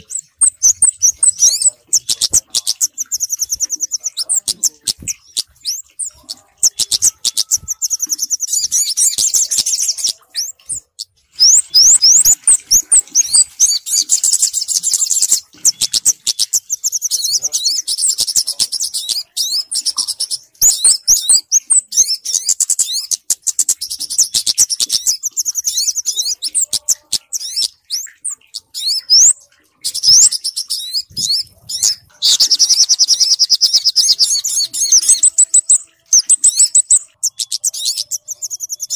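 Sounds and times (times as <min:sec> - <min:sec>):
high-pitched bird chirps and trills: 0:00.0 - 0:38.9.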